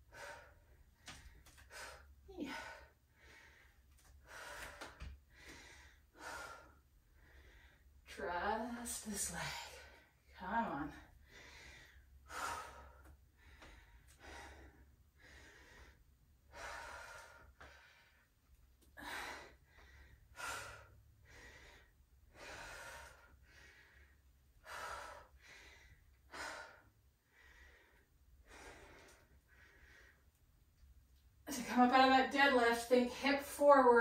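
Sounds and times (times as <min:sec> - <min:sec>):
woman breathing: 0:00.0 - 0:30.9.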